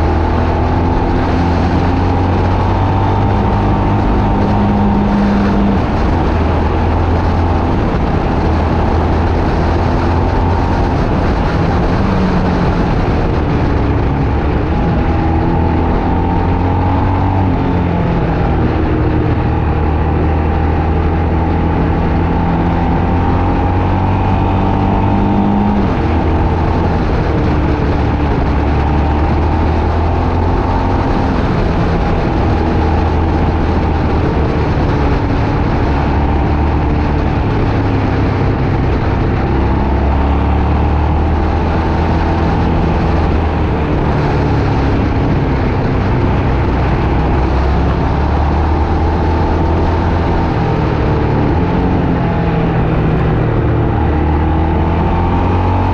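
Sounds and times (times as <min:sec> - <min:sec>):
car engine running: 0:00.0 - 0:55.9
road noise: 0:00.0 - 0:55.9.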